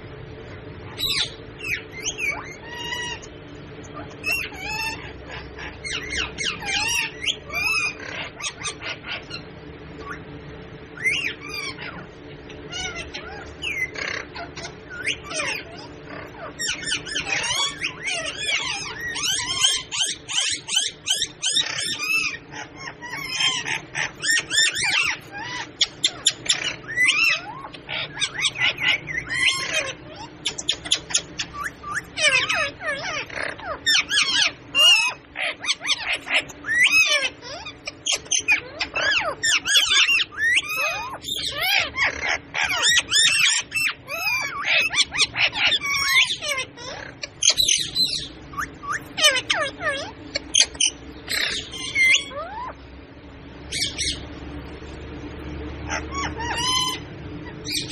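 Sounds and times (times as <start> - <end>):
parrots chattering and squawking: 0.0 - 57.9
steady low hum: 0.0 - 57.9.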